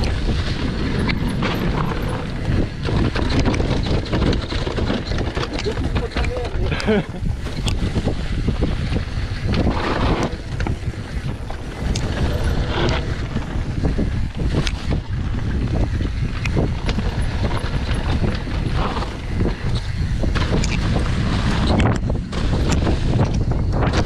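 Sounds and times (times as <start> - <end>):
bike clicks and knocks: 0.0 - 24.0
tyres rumbling over dirt and leaves: 0.0 - 24.0
wind noise on microphone: 0.0 - 24.0.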